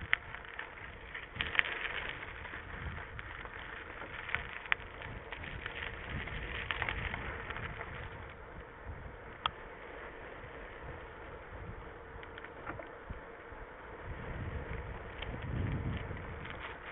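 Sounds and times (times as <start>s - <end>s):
bike clicks and rattles: 0.0s - 16.9s
bike tyres crunching on gravel: 0.0s - 16.9s.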